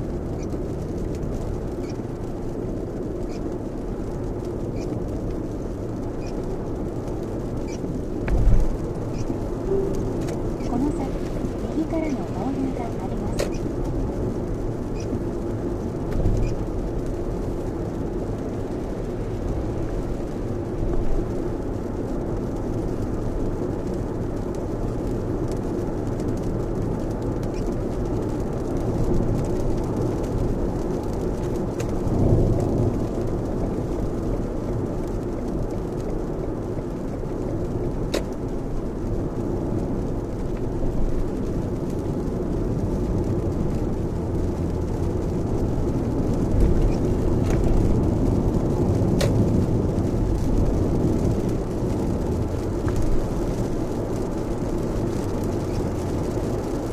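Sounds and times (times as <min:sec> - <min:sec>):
heavy rain on car: 0:00.0 - 0:56.9
tyre road noise: 0:00.0 - 0:56.9.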